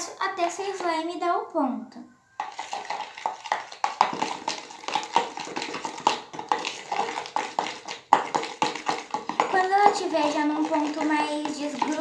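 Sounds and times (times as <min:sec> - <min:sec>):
metal spoon stirring slime in bowl: 0:00.0 - 0:01.1, 0:02.3 - 0:12.0.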